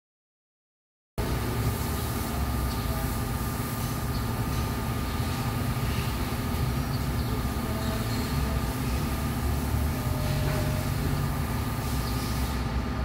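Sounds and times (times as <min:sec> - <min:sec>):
low mechanical rumble: 0:01.2 - 0:13.0.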